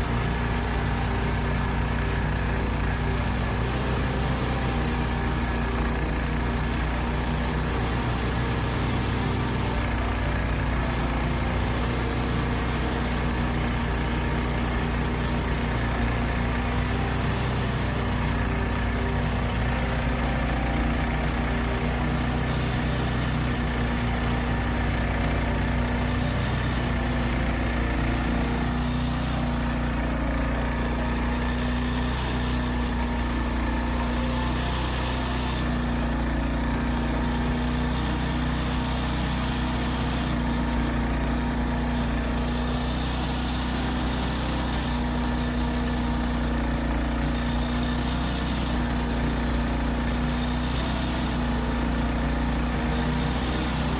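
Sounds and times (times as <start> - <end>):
engine droning steadily: 0.0 - 53.9.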